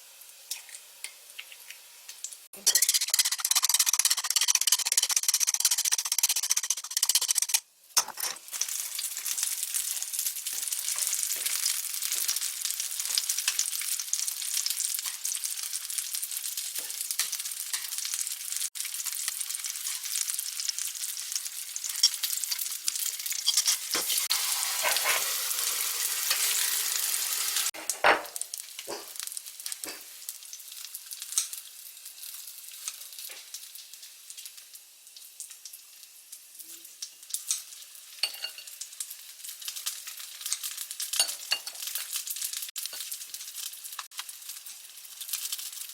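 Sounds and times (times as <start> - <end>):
food sizzling in a pan: 0.0 - 6.4, 7.3 - 45.9.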